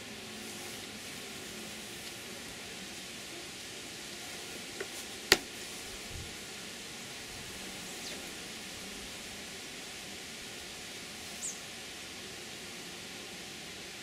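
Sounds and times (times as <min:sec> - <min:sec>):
beehive hissing: 0:00.0 - 0:14.0.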